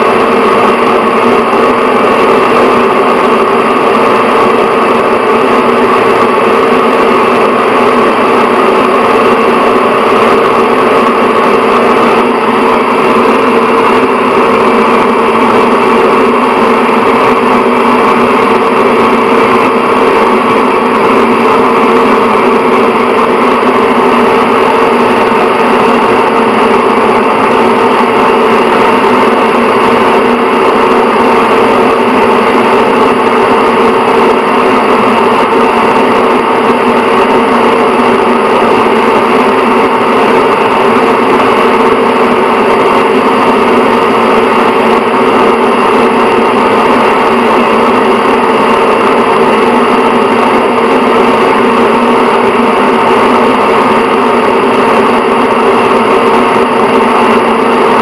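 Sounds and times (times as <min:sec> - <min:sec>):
exhaust fan running: 0:00.0 - 0:58.0.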